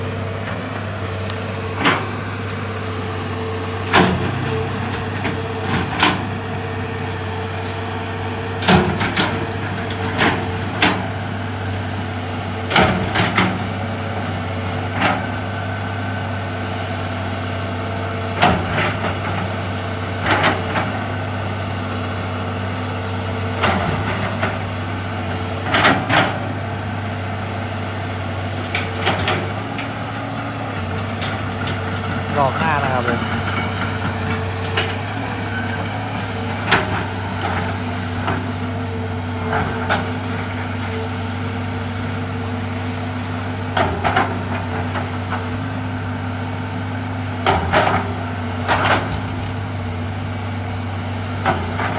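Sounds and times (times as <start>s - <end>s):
excavator diesel engine droning: 0.0s - 51.9s.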